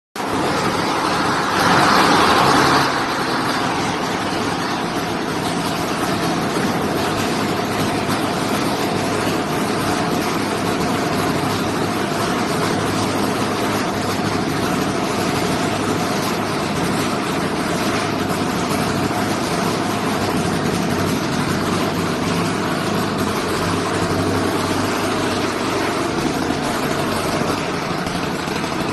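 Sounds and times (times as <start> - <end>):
engine running steadily: 0.2 - 28.9.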